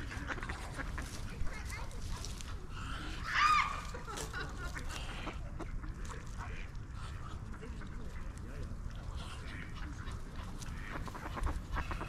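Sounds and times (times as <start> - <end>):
ducks calling: 0.0 - 8.2, 9.0 - 12.0.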